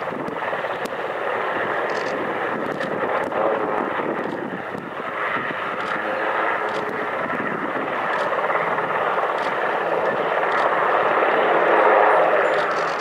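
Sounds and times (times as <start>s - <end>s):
distant aircraft engines droning: 0.0s - 13.0s.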